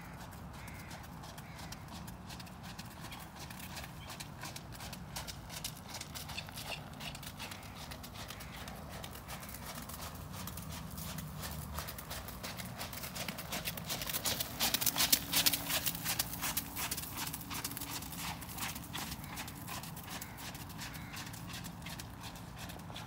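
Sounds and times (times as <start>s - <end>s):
horse hoofbeats on wet footing: 0.0s - 23.0s.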